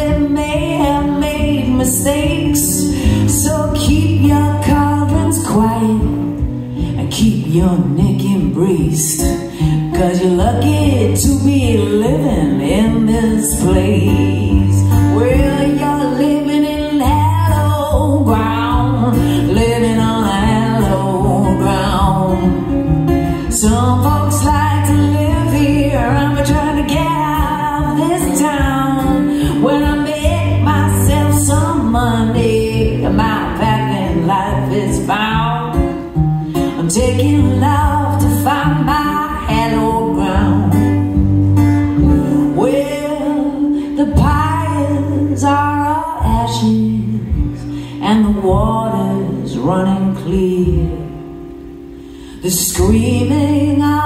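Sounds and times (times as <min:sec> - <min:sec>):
acoustic guitar strumming: 0:00.0 - 0:54.0
woman singing: 0:00.0 - 0:54.0.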